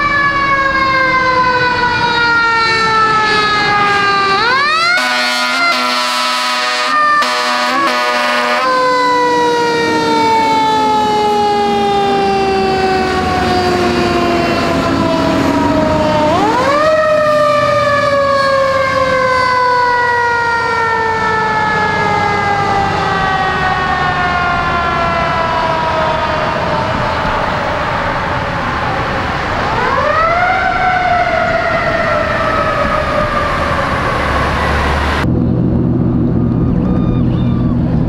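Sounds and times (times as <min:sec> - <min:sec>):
fire truck siren winding: 0:00.0 - 0:35.3
truck engine and road rumble: 0:00.0 - 0:38.0.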